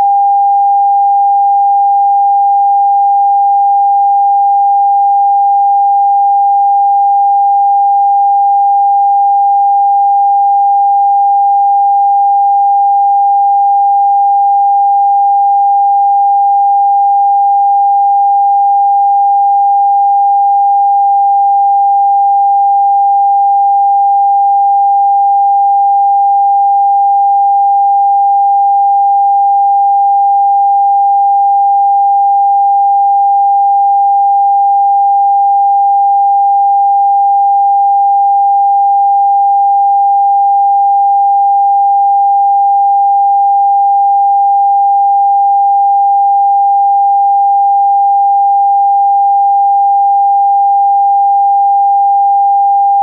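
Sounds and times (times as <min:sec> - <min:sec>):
pure sine-wave tone: 0:00.0 - 0:51.6.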